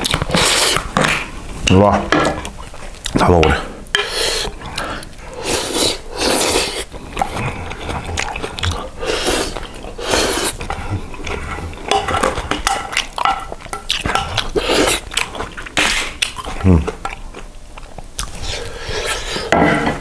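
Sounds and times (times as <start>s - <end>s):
eating sounds: 0.0s - 19.6s.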